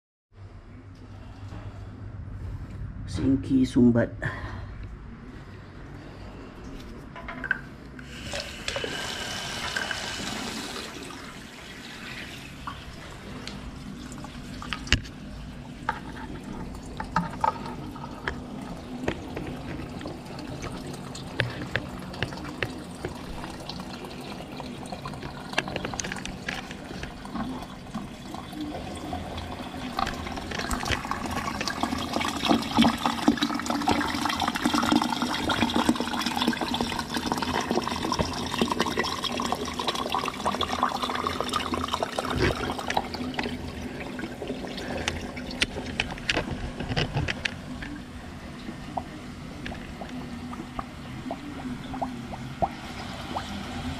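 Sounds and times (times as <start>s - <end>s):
water gurgling in drain pipe: 7.4s - 53.9s.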